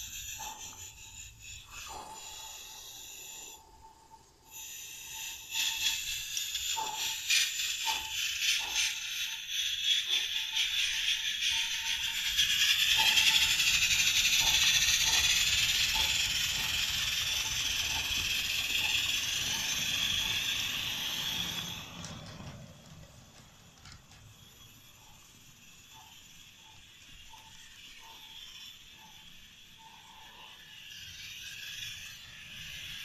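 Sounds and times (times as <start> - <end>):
light irregular ticks: 0.0 - 33.0
steam hissing: 0.0 - 33.0.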